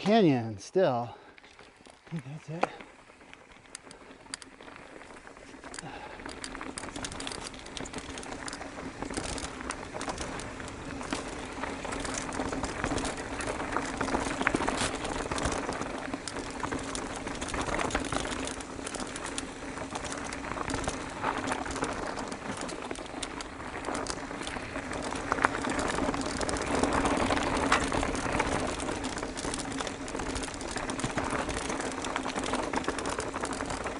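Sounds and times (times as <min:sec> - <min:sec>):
tyres crunching over dirt: 0:00.0 - 0:33.9
bike knocking and rattling: 0:01.4 - 0:33.9.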